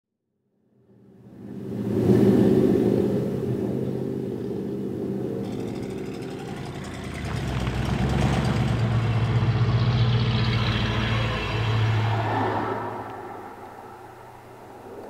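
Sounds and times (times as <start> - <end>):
car engines driving by: 1.2 - 15.0.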